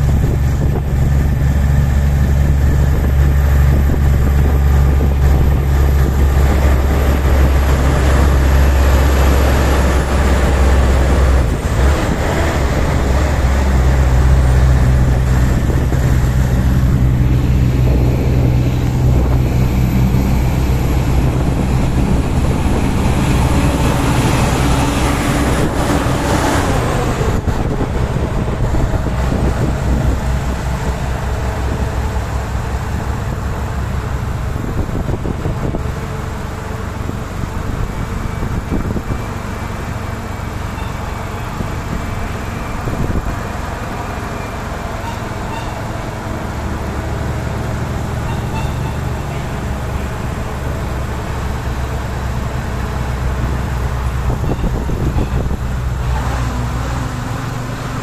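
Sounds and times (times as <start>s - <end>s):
diesel truck engines droning: 0.0s - 58.0s
tyre and road noise: 0.0s - 58.0s.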